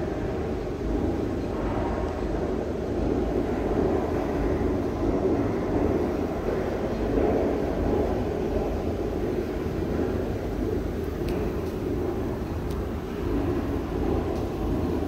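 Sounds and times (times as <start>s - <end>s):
elevator humming and rumbling: 0.0s - 15.0s.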